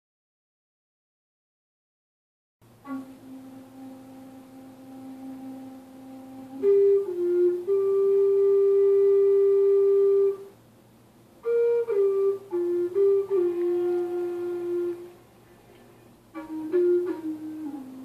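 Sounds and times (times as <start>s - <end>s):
wooden flute melody: 2.6s - 10.7s, 11.4s - 18.0s.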